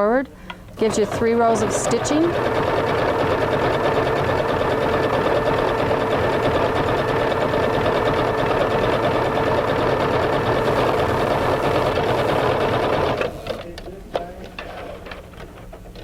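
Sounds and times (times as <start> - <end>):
electric sewing machine running: 0.8 - 13.8.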